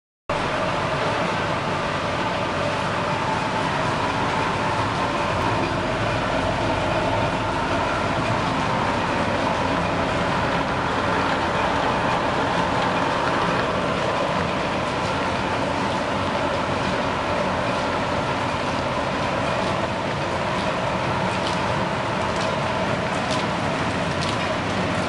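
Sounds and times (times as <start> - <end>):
factory machines running: 0.3 - 25.0.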